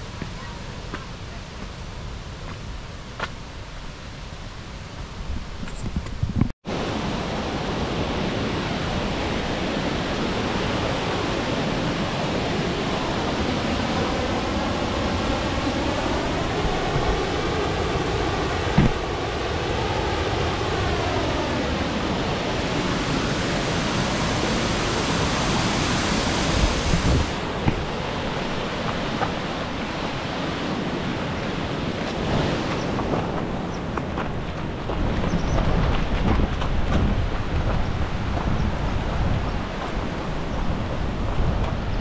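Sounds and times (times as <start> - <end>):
waterfall and rapids rushing: 6.7 - 42.0.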